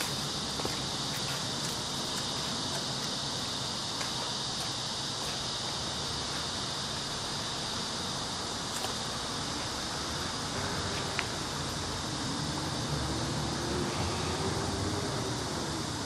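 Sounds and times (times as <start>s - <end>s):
faint outdoor hiss: 0.0s - 16.0s
insects droning: 0.0s - 16.0s.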